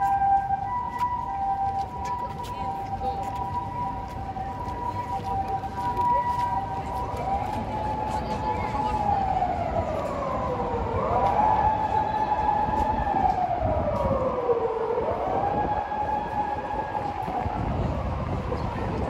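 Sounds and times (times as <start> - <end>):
emergency siren wailing: 0.0 - 19.0
low city rumble: 0.0 - 19.0.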